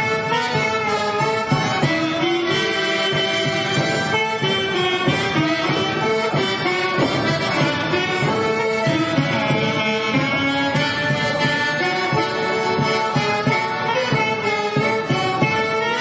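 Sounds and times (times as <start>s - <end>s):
instrumental folk dance music: 0.0s - 16.0s.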